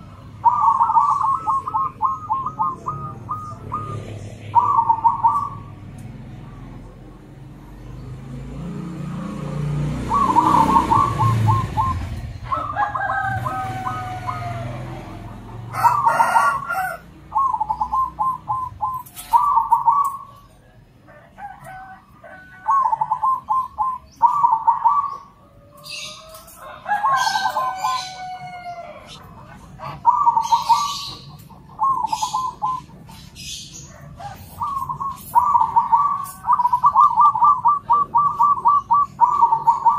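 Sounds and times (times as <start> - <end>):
doves cooing: 0.0 - 7.3, 8.2 - 39.9.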